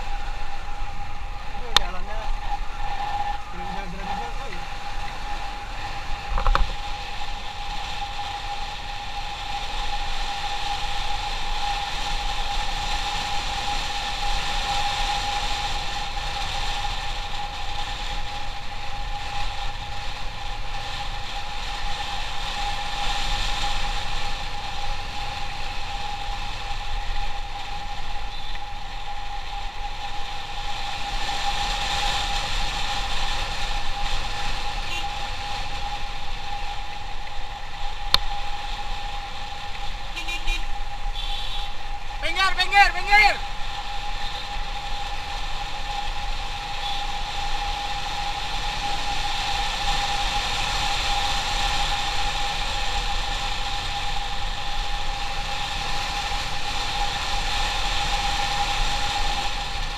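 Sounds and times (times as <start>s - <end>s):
wind rumbling on microphone: 0.0s - 59.9s.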